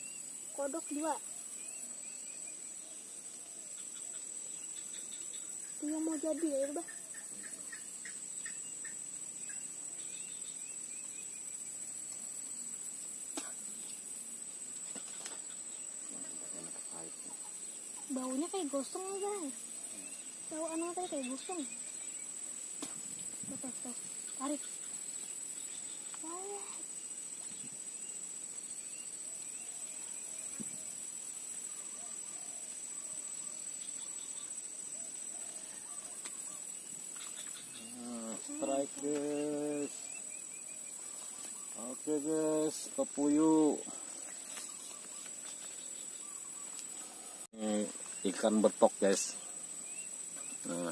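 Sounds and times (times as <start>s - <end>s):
faint bird chirps: 0.0s - 12.7s, 14.8s - 22.4s, 23.4s - 50.9s
insects chirring: 0.0s - 50.9s.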